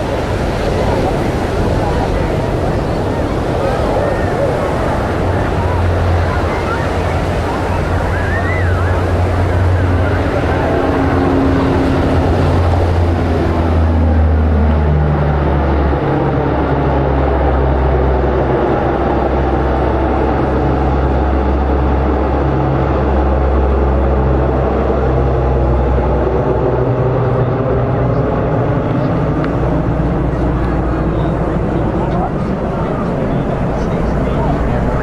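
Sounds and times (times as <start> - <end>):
aircraft engine drone: 0.0 - 35.0.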